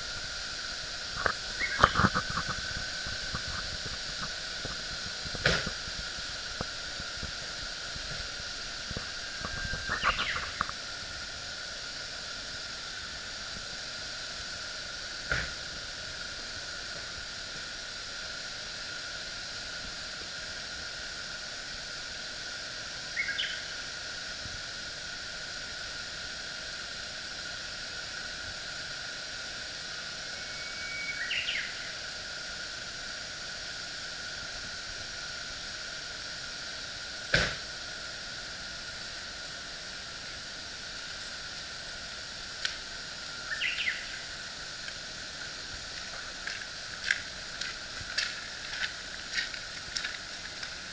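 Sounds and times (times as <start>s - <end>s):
outdoor background hiss: 0.0s - 50.9s.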